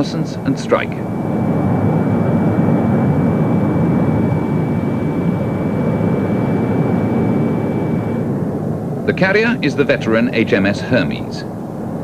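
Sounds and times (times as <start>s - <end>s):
jet engine noise: 0.0s - 12.0s
thin high whine: 0.0s - 12.0s.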